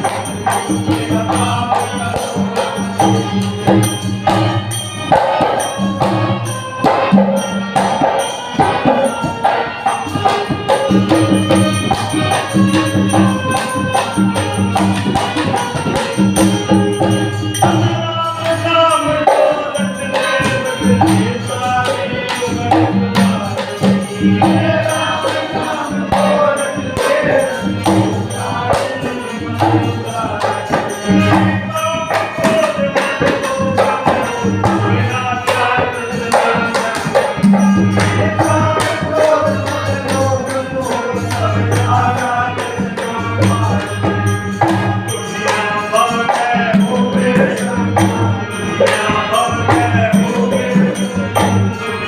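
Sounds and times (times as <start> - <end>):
hand percussion: 0.0 - 52.0
person singing: 0.0 - 52.0.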